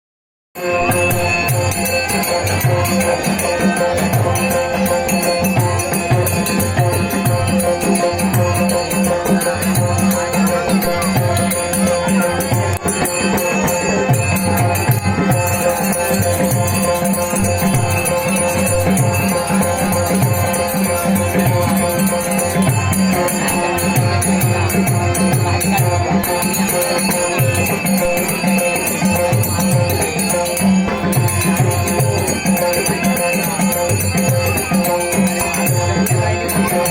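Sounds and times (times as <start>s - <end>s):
held instrumental tones: 0.6s - 36.9s
jingling percussion: 0.6s - 36.9s
repeating drum rhythm: 0.6s - 36.9s.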